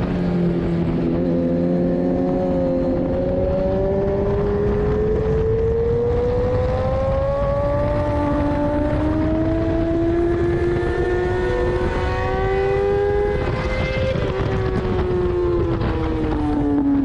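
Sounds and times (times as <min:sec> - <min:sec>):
wind rush: 0:00.0 - 0:17.0
motorcycle engine revving hard: 0:00.5 - 0:16.1.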